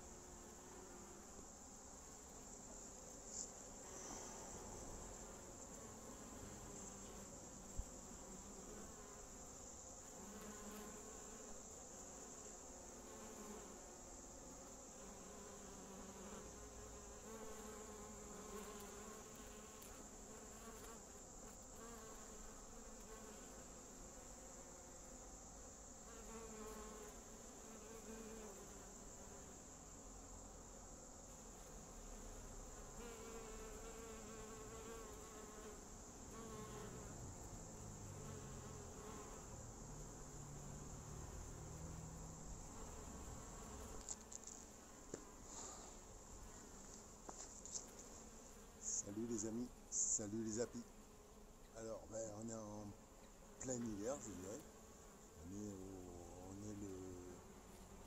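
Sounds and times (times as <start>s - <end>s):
bees buzzing: 0.0s - 58.0s.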